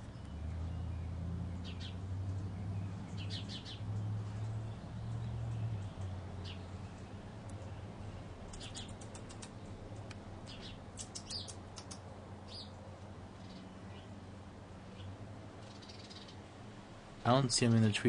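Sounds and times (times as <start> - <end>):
hummingbirds chipping: 0.0 - 18.0.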